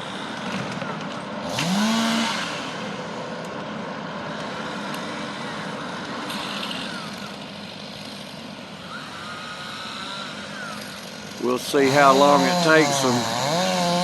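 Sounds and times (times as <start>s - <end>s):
machinery engines running: 0.0s - 14.0s.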